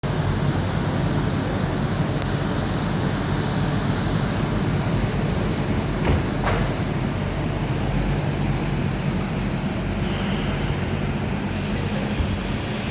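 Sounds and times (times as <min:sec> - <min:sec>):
train rumble and hum: 0:00.0 - 0:12.9.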